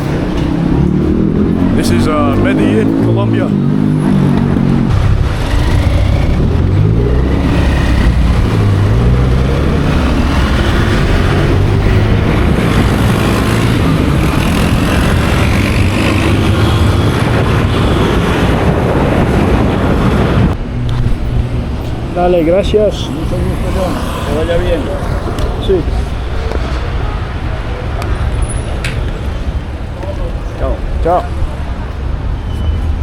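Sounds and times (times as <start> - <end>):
road and wind noise: 0.0 - 33.0.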